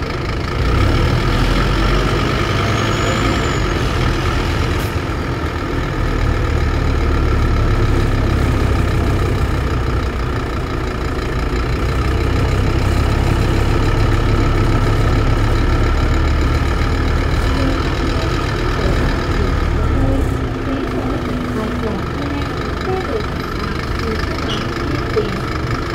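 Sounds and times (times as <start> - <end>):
bus diesel engine running: 0.0 - 25.9.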